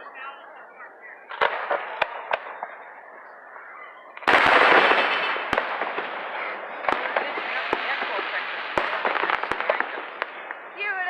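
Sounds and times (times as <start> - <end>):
fireworks bangs: 1.2 - 3.1, 3.7 - 11.0.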